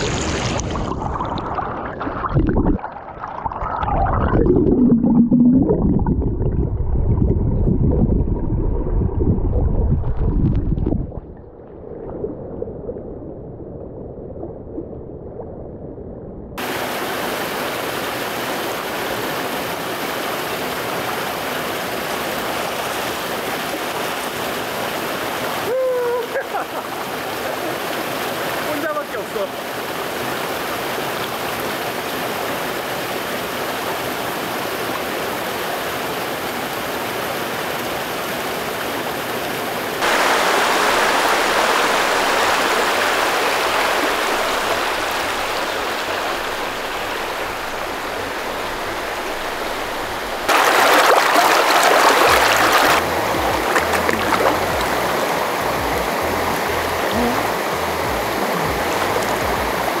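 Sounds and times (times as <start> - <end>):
stream running over rocks: 0.0 - 5.8, 16.6 - 60.0.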